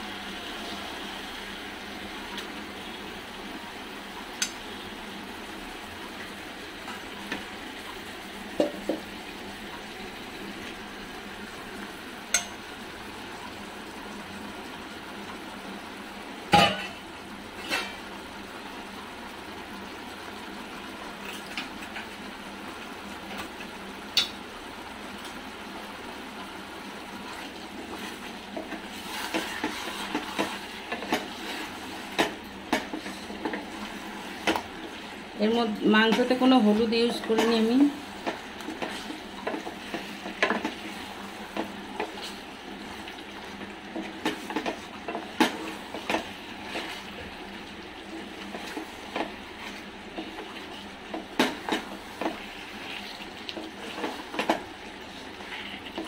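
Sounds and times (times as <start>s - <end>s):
meat sizzling in hot oil: 0.0s - 56.0s.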